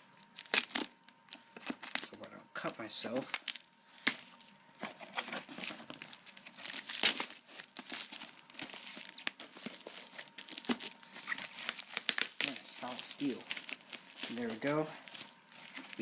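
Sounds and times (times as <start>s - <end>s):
packaging crinkling and tearing: 0.2s - 16.0s.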